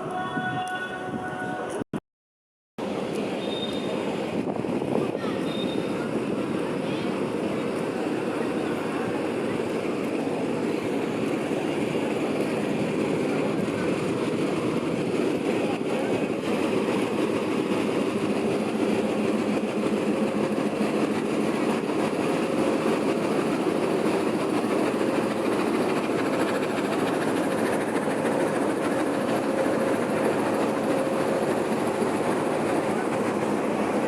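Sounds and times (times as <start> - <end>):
train wheels on rails: 2.8 - 34.0.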